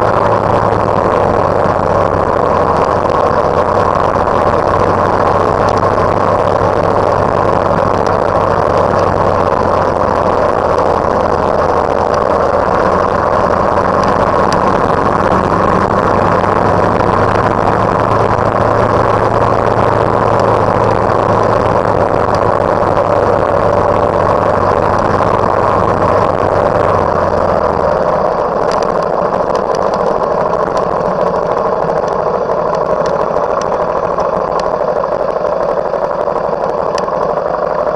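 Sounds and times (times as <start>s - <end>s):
road and wind rumble: 0.0s - 37.9s
vehicle engine drone: 0.0s - 37.9s.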